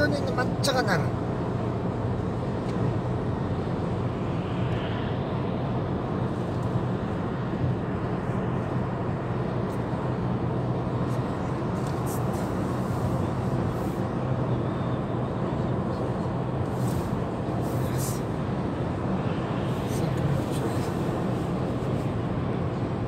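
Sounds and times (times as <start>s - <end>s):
car engine drone in cabin: 0.0s - 23.0s.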